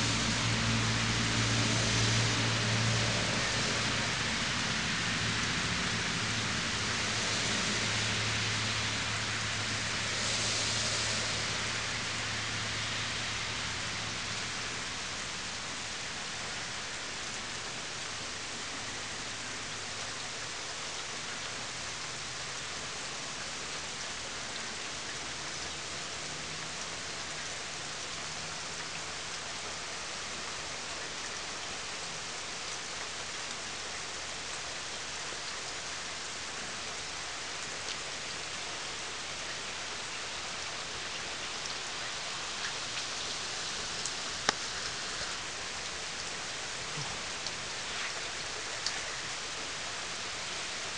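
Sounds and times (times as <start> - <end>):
rain falling on plants: 0.0 - 50.9.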